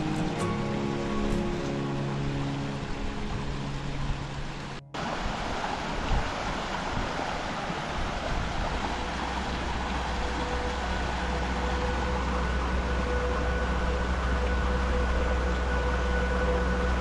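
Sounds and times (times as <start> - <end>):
rushing stream: 0.0 - 17.0
wind on microphone: 2.5 - 17.0.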